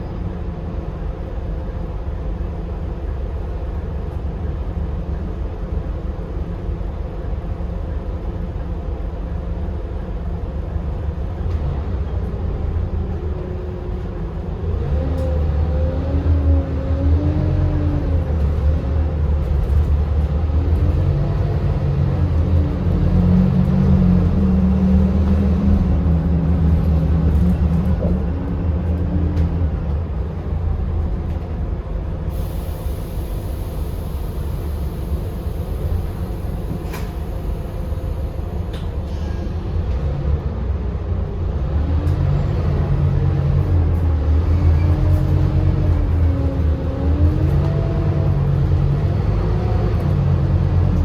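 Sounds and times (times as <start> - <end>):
bus diesel engine: 0.0 - 51.0.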